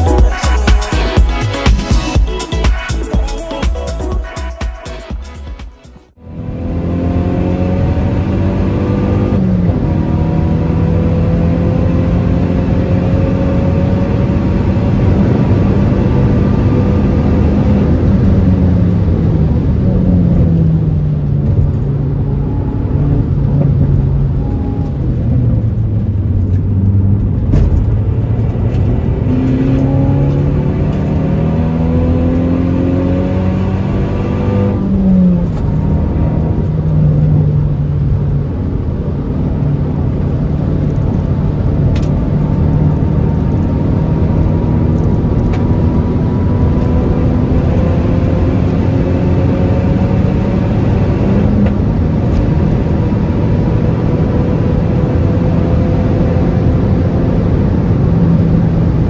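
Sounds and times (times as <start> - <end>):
car engine revving: 0.0 - 59.0
road and wind noise: 6.0 - 59.0.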